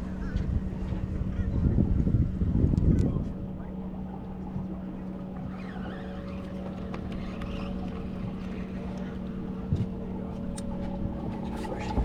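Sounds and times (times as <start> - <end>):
boat motor hum: 0.0 - 12.0.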